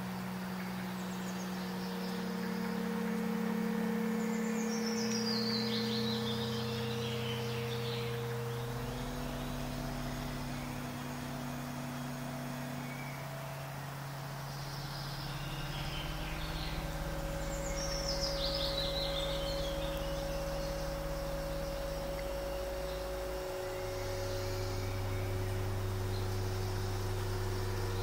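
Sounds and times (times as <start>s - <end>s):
bird chirps: 0.0s - 28.0s
low held drone notes: 0.0s - 28.0s.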